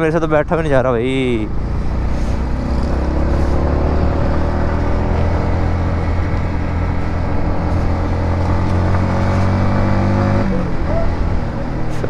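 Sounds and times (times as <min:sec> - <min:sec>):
motorcycle engine running: 0:01.1 - 0:12.0.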